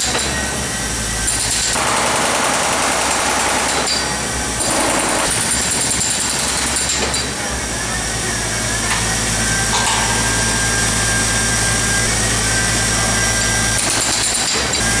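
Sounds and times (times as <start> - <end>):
power demolition tools on concrete: 0.0 - 15.0.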